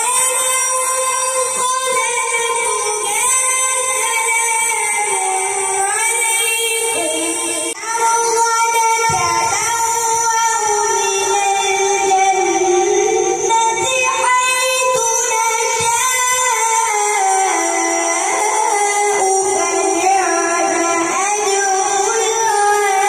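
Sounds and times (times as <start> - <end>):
boy reciting melodically through microphone: 0.0 - 23.0.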